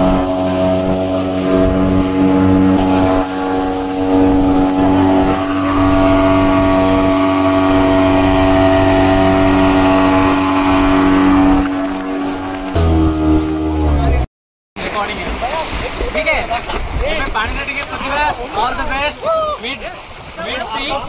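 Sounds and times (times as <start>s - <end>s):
speedboat engine running: 0.0s - 19.2s
water rushing along hull: 0.0s - 21.0s.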